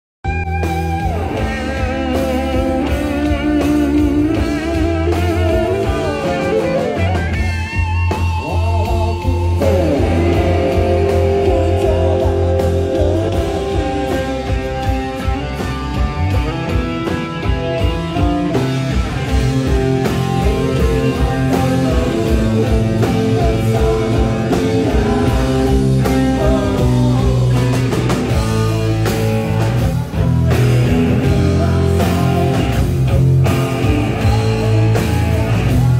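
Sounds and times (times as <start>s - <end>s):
amplified electric guitar: 0.2s - 35.9s.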